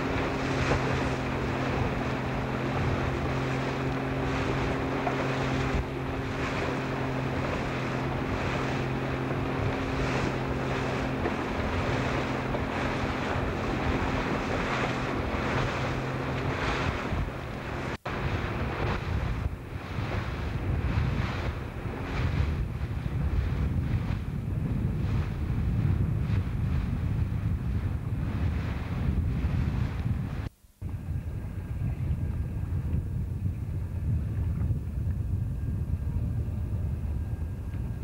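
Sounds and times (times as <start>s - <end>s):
boat motor humming: 0.0s - 38.0s
choppy water washing: 0.0s - 38.0s
wind buffeting microphone: 0.0s - 38.0s.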